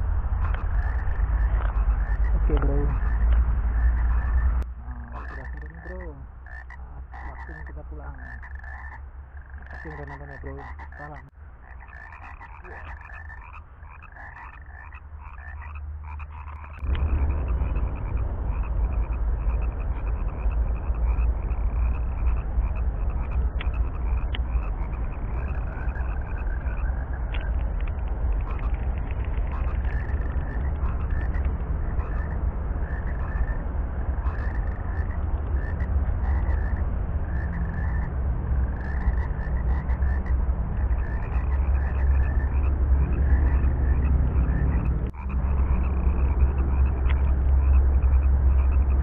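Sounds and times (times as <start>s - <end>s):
steady low rumble: 0.0s - 49.0s
chorus of frogs calling: 0.3s - 49.0s.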